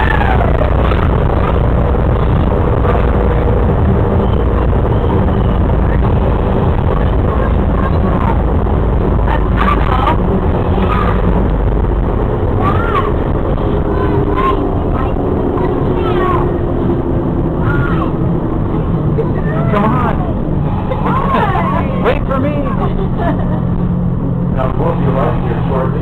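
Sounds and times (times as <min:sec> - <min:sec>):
faint steady whine: 0:00.0 - 0:26.0
monorail train rumble: 0:00.0 - 0:26.0.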